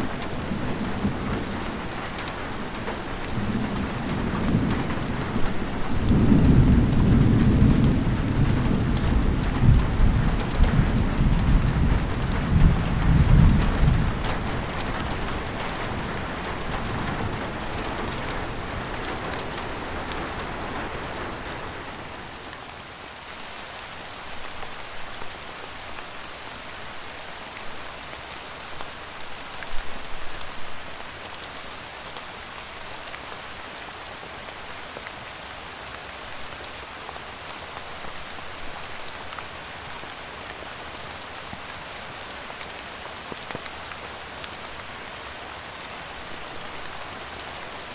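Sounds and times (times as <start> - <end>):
rain pattering: 0.0 - 47.9.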